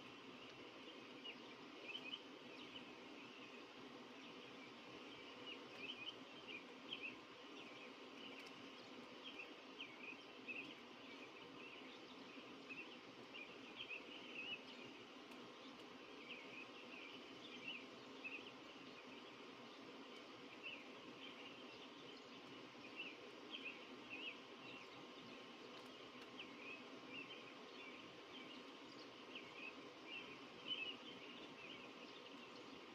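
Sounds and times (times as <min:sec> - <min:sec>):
low background hum: 0:00.0 - 0:32.9
small birds chirping: 0:00.0 - 0:32.9.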